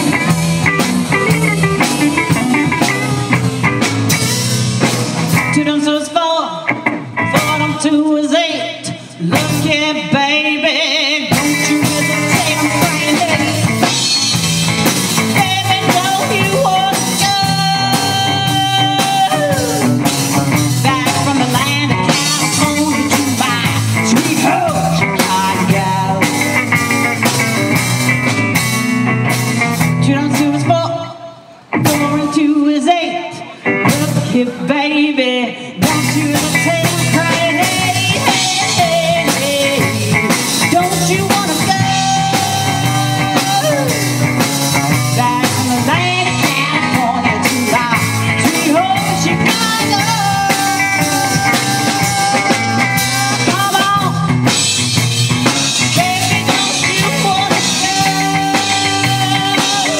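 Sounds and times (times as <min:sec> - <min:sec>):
drum kit: 0:00.0 - 0:10.5, 0:11.1 - 0:30.8, 0:31.5 - 0:32.4, 0:33.6 - 0:34.5, 0:35.8 - 0:59.9
electric guitars: 0:00.0 - 0:59.9
woman singing: 0:05.3 - 0:14.4, 0:15.1 - 0:27.3, 0:30.0 - 0:54.6, 0:55.6 - 0:59.9.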